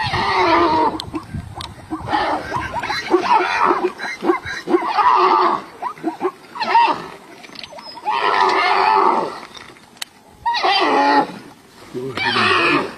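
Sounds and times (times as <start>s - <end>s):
wild animal cries: 0.0s - 9.4s, 10.4s - 11.5s, 12.1s - 12.9s.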